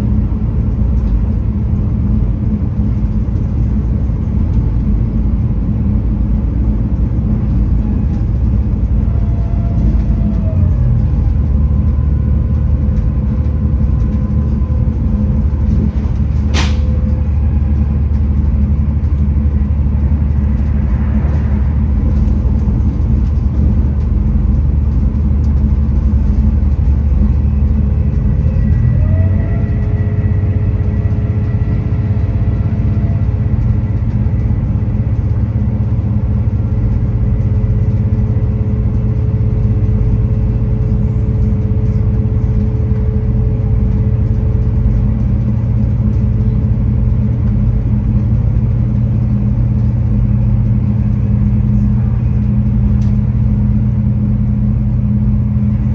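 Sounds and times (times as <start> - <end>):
diesel train rumble: 0.0 - 55.9
track noise: 0.2 - 55.9.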